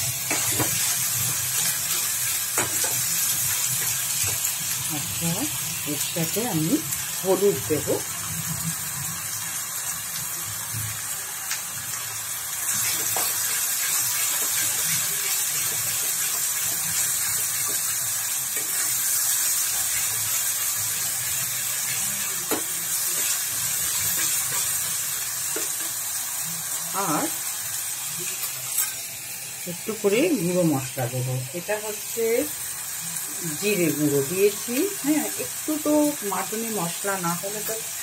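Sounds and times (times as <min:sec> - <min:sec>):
paste sizzling in oil: 0:00.0 - 0:38.0.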